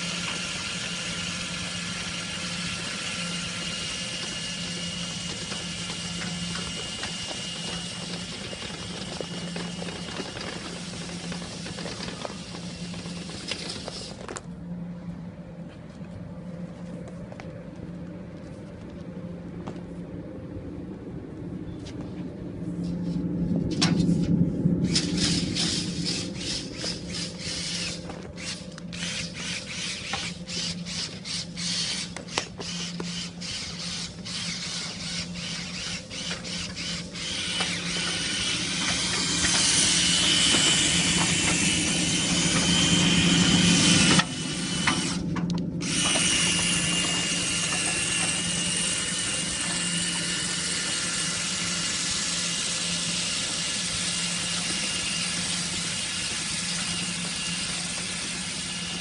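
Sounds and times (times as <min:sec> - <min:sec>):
power tool motor whining: 0:00.0 - 0:14.4, 0:24.9 - 0:59.0.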